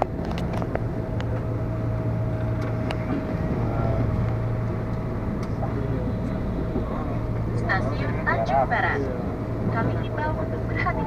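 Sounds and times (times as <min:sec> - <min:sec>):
train cabin rumble and hum: 0:00.0 - 0:11.0.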